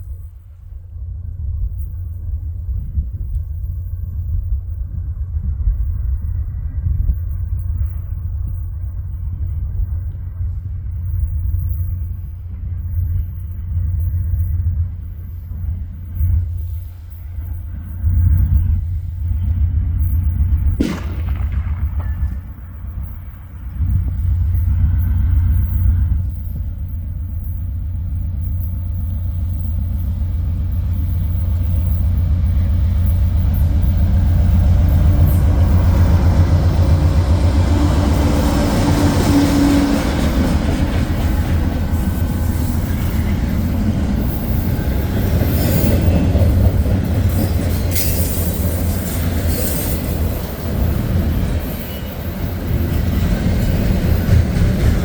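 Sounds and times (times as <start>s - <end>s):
locomotive engine drone: 0.0s - 55.0s
train wheels rolling on rails: 0.0s - 55.0s.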